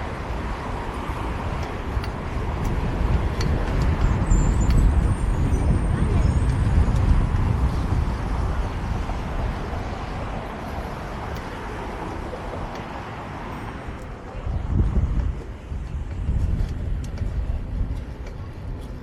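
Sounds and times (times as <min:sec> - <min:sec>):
passing traffic rumble: 0:00.0 - 0:19.0
wind buffeting microphone: 0:00.0 - 0:19.0.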